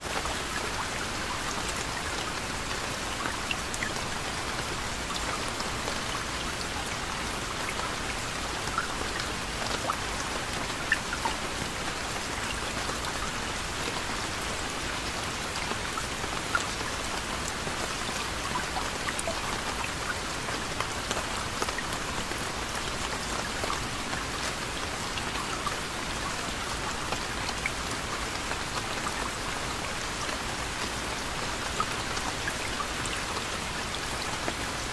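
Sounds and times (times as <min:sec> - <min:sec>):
gentle rain patter: 0:00.0 - 0:34.9.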